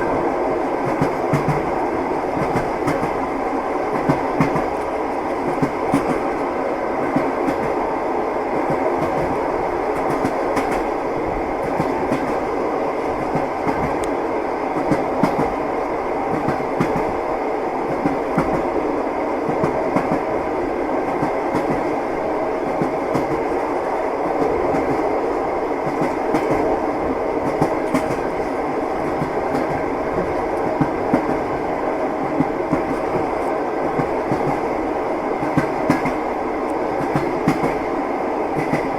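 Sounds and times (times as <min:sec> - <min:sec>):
train rumble: 0:00.0 - 0:38.9.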